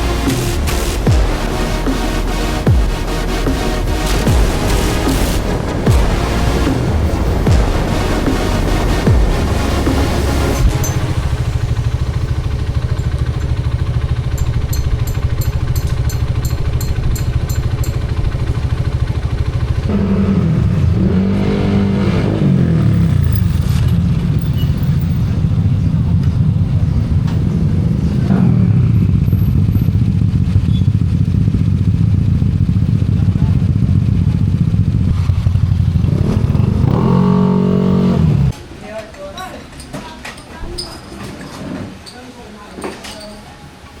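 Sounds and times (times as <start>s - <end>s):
motorcycle engine revving: 0.0s - 38.6s.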